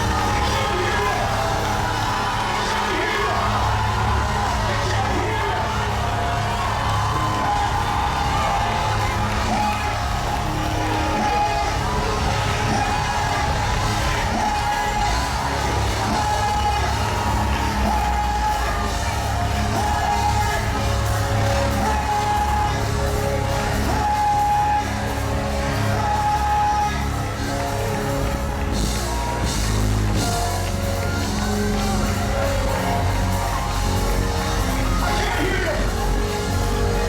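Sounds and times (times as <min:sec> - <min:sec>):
gospel band with heavy bass: 0:00.0 - 0:37.0
voices singing long notes: 0:00.0 - 0:37.0.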